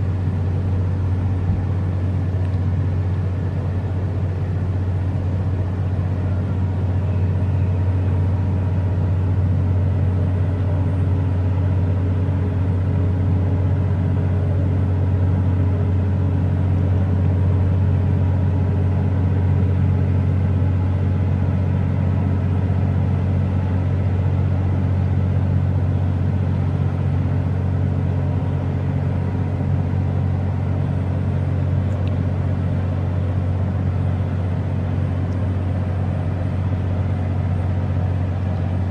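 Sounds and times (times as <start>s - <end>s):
low engine drone: 0.0s - 38.9s.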